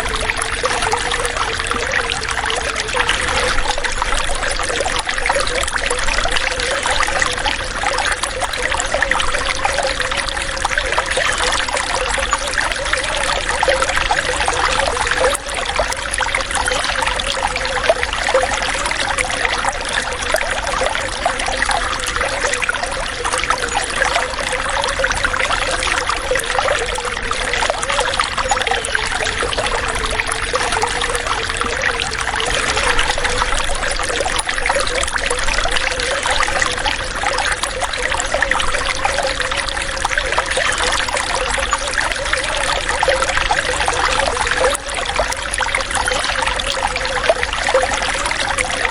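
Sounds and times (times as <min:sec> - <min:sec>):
water running and trickling: 0:00.0 - 0:48.9.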